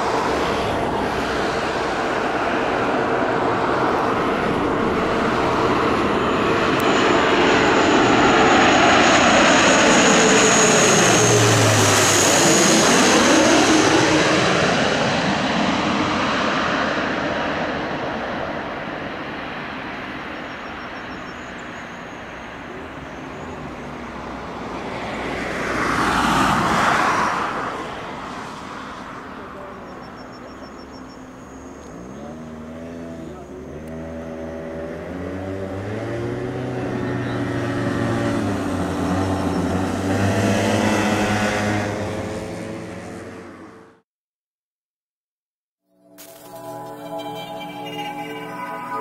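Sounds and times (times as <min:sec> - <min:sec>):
propeller aircraft passing overhead: 0:00.0 - 0:44.0.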